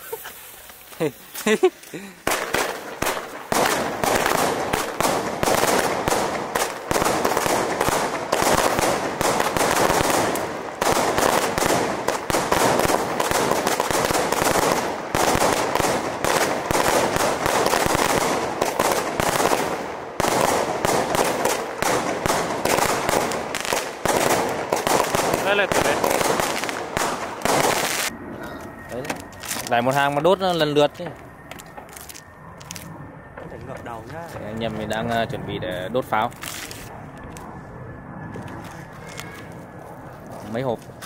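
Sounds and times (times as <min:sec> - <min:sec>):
fireworks popping and crackling: 0:00.0 - 0:28.1, 0:28.8 - 0:37.5.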